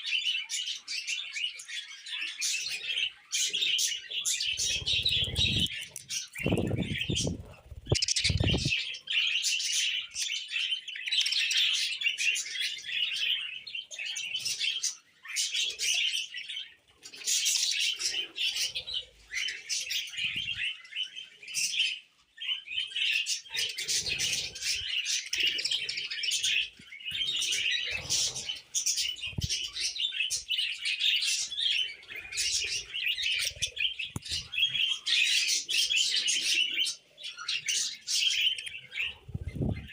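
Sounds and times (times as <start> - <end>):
budgerigars chirping: 0.1 - 39.9.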